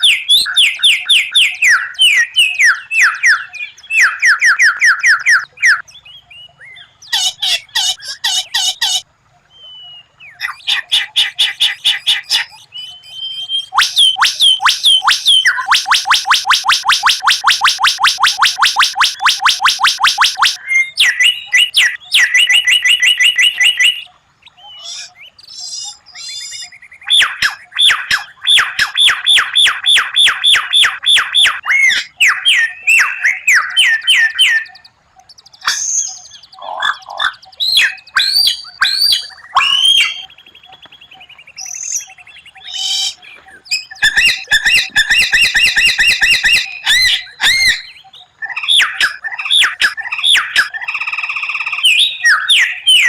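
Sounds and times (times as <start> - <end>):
bird singing varied whistles: 0.0 - 9.0, 9.6 - 53.0.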